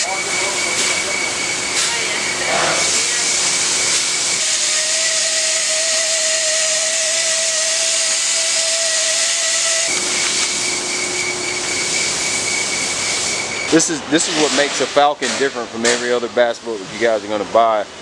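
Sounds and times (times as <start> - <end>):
spray gun hissing: 0.0 - 15.4
steady whine: 0.0 - 18.0.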